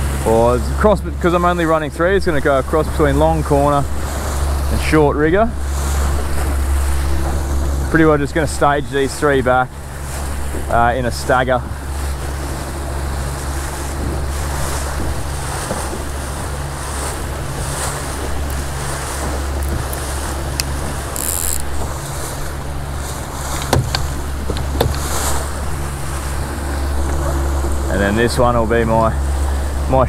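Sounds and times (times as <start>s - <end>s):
outboard motor humming: 0.0s - 30.0s
water rushing past hull: 0.0s - 30.0s
wind on microphone: 0.0s - 30.0s.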